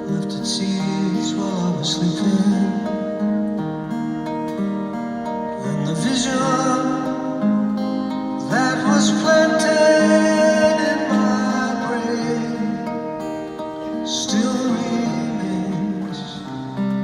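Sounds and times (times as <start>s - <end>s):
man singing slow song: 0.0s - 3.2s, 5.5s - 7.5s, 8.4s - 17.0s
acoustic guitar: 0.0s - 17.0s.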